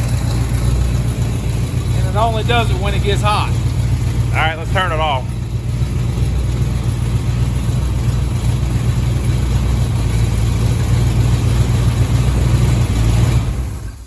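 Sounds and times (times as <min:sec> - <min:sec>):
tailpipe rattling: 0:00.0 - 0:14.0
truck engine idling: 0:00.0 - 0:14.0.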